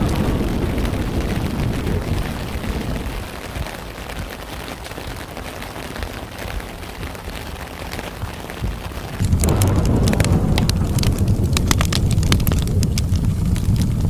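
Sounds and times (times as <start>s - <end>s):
rain falling: 0.0s - 14.0s
rumble of thunder: 0.0s - 14.0s.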